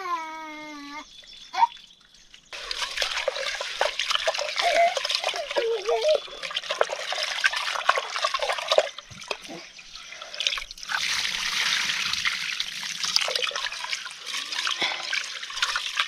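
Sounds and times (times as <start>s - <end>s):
water trickling: 0.9s - 16.0s.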